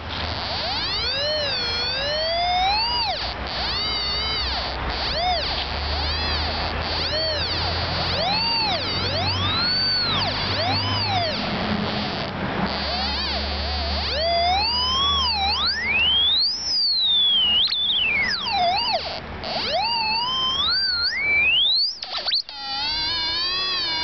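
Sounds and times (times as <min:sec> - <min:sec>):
radio tone gliding in pitch: 0:00.0 - 0:24.0.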